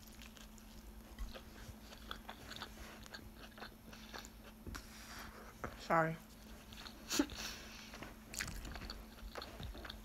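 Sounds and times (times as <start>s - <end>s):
person chewing food: 0.0s - 5.7s, 6.3s - 10.0s.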